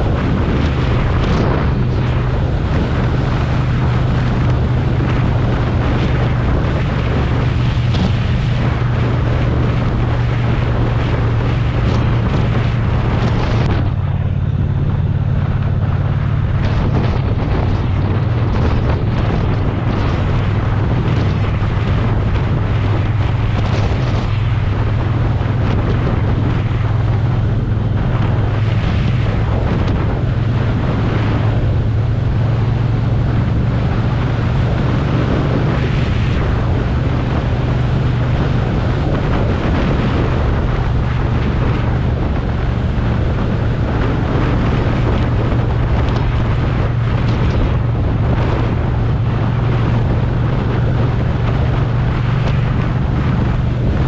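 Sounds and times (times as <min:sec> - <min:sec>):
motorcycle engine running: 0:00.0 - 0:54.0
wind buffeting the microphone: 0:00.0 - 0:54.0.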